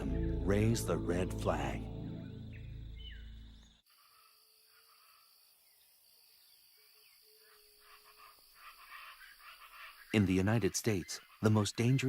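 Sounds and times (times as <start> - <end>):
high insect-like hum: 0.0 - 10.5.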